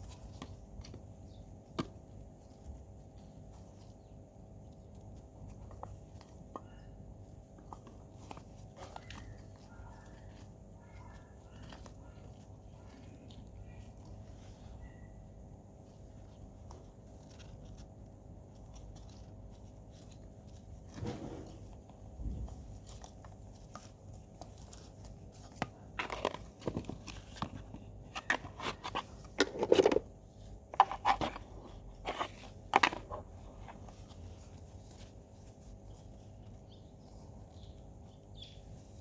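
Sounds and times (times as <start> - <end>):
soil and potatoes crunching: 0.0 - 39.0.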